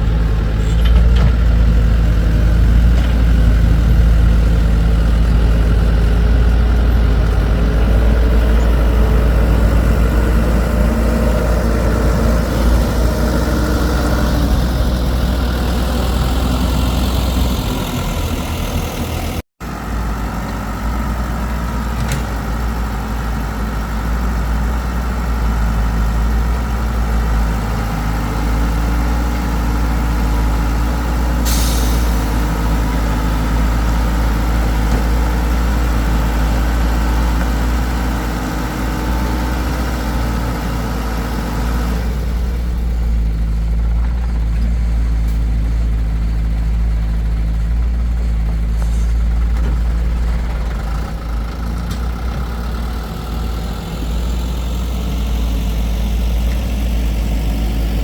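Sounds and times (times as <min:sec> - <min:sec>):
excavator diesel engine rumbling: 0:00.0 - 0:58.0.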